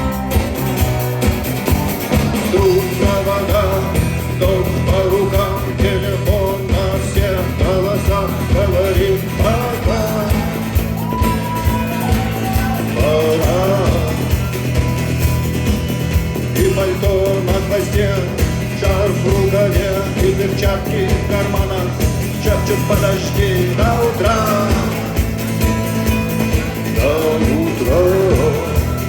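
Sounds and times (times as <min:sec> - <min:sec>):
rock band playing: 0:00.0 - 0:29.0
sliding lead melody: 0:00.0 - 0:29.0.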